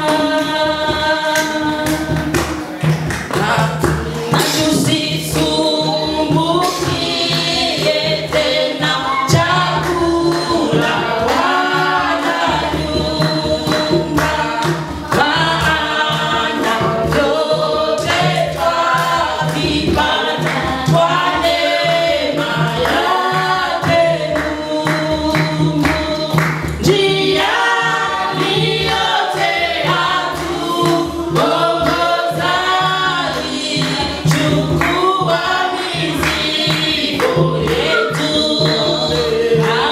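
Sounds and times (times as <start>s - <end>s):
choir singing gospel music: 0.0s - 39.9s
instrumental backing with beat: 0.0s - 39.9s.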